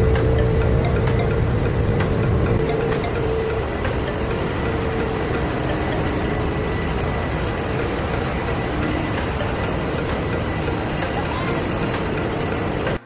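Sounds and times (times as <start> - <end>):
engine room machinery drone: 0.0 - 13.0
faint high whine: 0.0 - 13.0.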